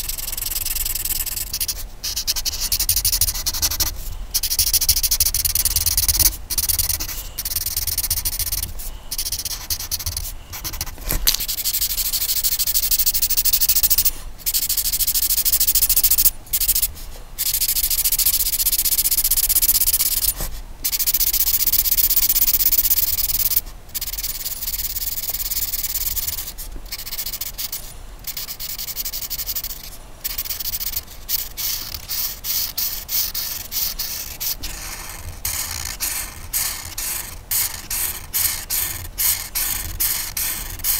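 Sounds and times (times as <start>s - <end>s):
coloring tool scratching on paper: 0.0s - 40.9s.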